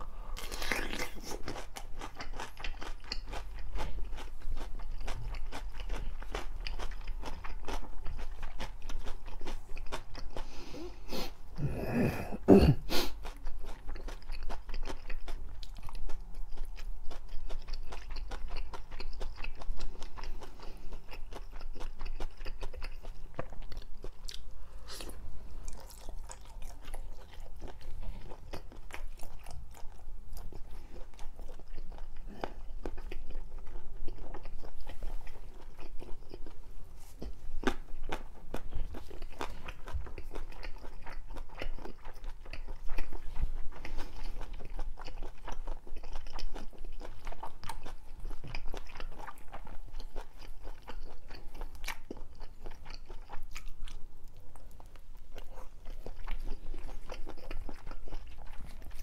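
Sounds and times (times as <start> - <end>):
close chewing crunches: 0.3 - 10.6, 13.0 - 59.0.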